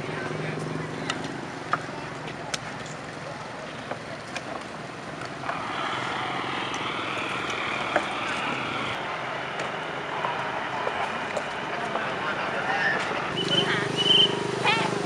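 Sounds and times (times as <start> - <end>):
indistinct voices: 0.0 - 15.0
motor vehicle running: 0.0 - 15.0.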